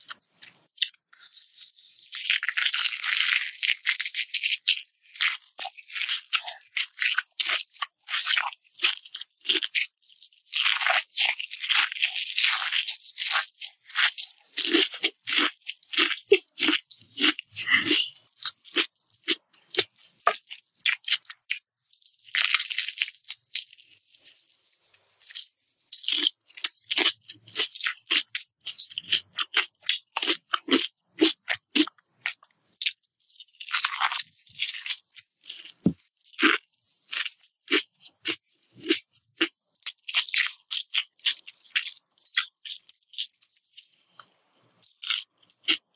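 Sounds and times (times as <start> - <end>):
biting into crisp crust: 0.0 - 21.6, 22.2 - 45.9
crunching and chewing food: 0.0 - 45.9.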